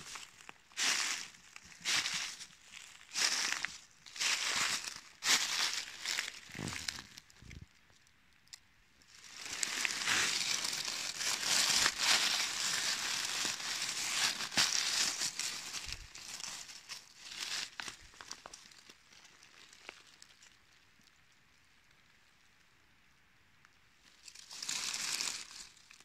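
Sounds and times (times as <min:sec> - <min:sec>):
dry leaves crackling and rustling: 0:00.0 - 0:07.4, 0:09.0 - 0:20.8, 0:24.0 - 0:26.0.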